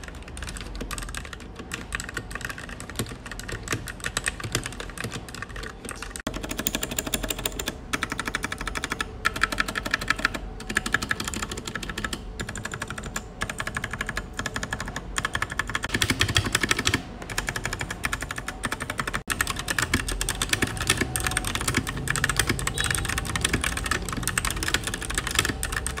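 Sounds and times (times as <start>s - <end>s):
mechanical keyboard typing: 0.0s - 26.0s.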